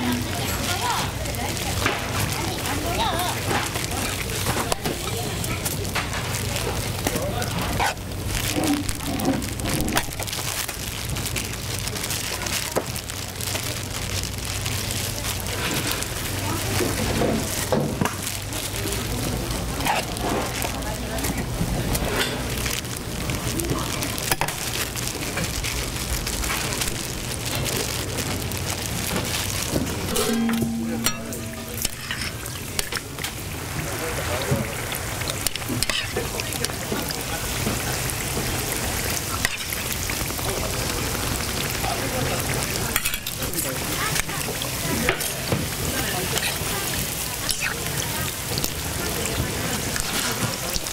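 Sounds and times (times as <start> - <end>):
food sizzling in oil: 0.0 - 50.9.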